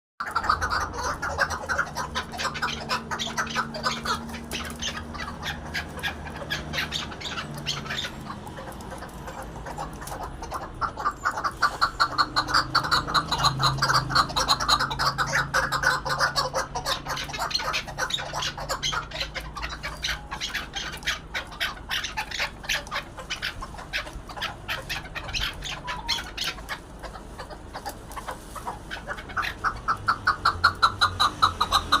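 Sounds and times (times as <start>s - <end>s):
partridge clucking calls: 0.2s - 32.0s.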